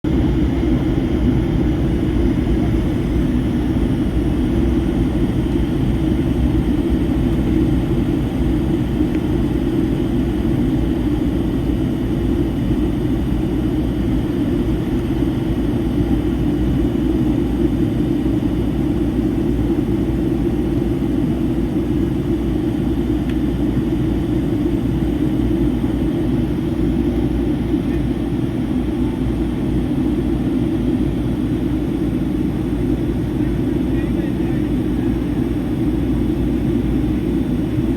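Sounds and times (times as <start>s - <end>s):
airliner cabin drone: 0.0s - 37.9s.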